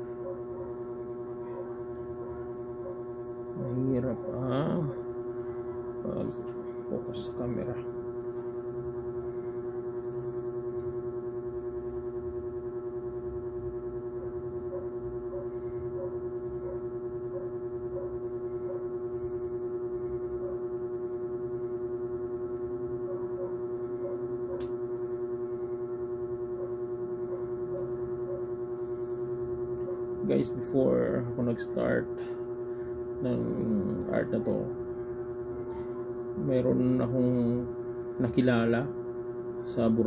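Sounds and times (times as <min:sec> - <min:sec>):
pulsing drone tone: 0:00.0 - 0:40.0.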